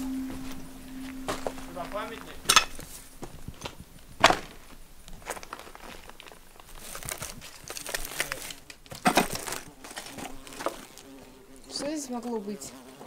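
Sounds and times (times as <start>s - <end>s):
footsteps crunching on rubble: 0.2s - 12.1s.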